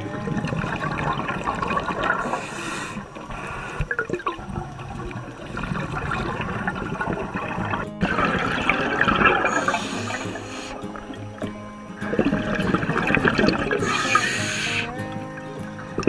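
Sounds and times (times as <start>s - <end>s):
underwater bubbling and gurgling: 0.0s - 16.0s.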